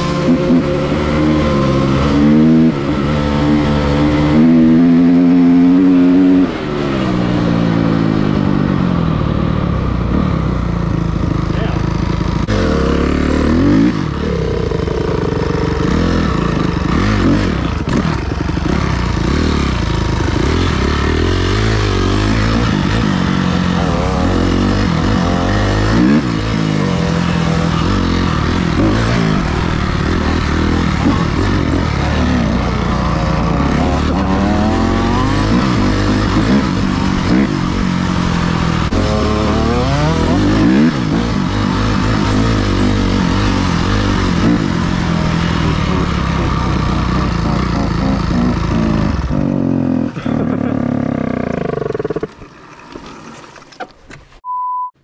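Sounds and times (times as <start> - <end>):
dirt bike engine revving: 0.0 - 53.4.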